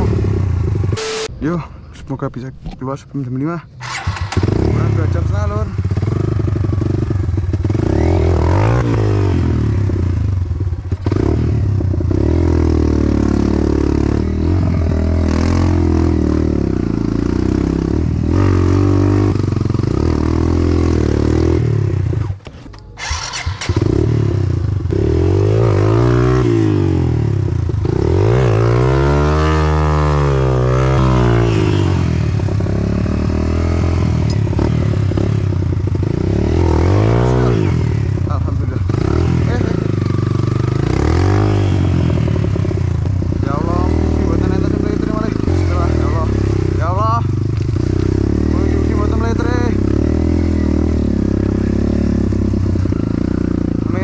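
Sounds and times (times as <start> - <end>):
dirt bike engine revving: 0.0 - 1.4, 3.8 - 54.0.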